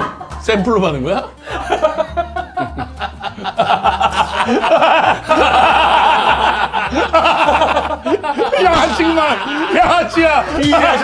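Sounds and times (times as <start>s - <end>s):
background music with low beat: 0.0s - 11.0s
men laughing loudly: 1.1s - 11.0s.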